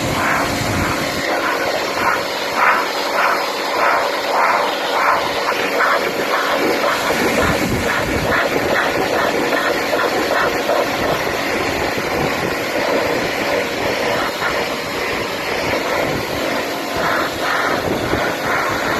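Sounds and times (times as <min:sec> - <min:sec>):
pressure washer spraying water: 0:00.0 - 0:18.9.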